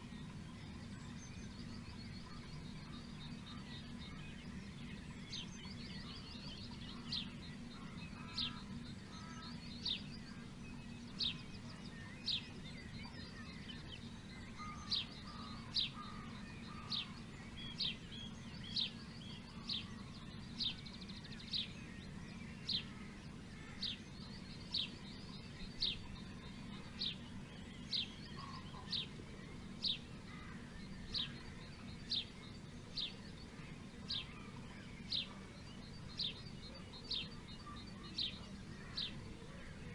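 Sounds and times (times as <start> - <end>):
birds twittering: 0.0 - 39.9
low hum: 0.0 - 39.9
songbird calling sharp notes: 0.0 - 39.9.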